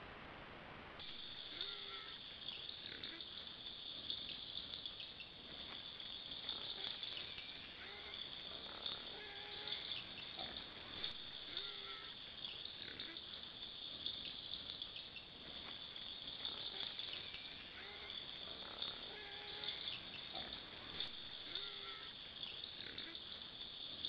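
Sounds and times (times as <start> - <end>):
insects trilling: 1.0 - 24.0
low animal calls: 1.3 - 13.4, 15.4 - 23.4.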